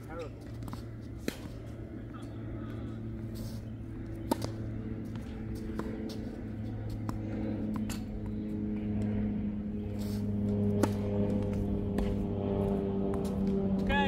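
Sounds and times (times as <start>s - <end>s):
low drone with steady tones: 0.0s - 14.0s
low hum: 0.0s - 14.0s.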